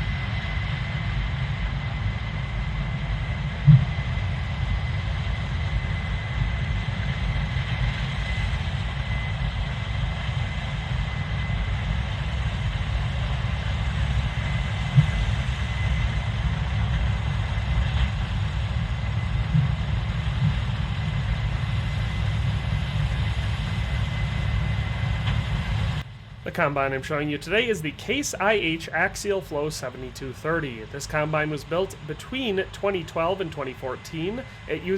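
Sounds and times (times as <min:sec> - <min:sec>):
combine harvester engine rumble: 0:00.0 - 0:34.9
faint high whine: 0:00.0 - 0:34.9.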